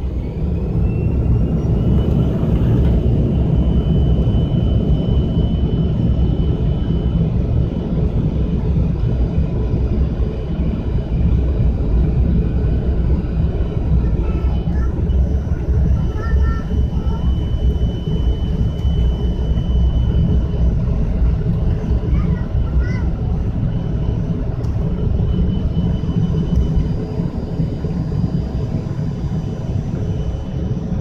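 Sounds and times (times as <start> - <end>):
jet engines at takeoff thrust: 0.0 - 31.0.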